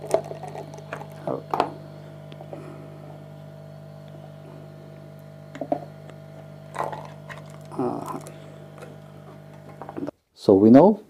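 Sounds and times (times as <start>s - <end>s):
electrical hum: 0.0s - 10.2s.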